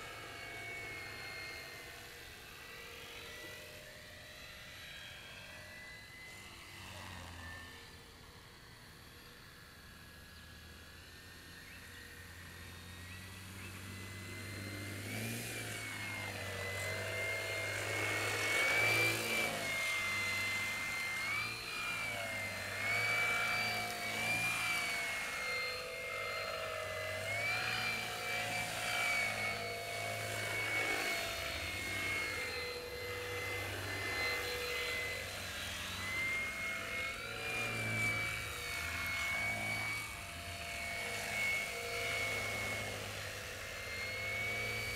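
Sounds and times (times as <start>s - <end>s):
model airplane motor whining: 0.0s - 44.9s.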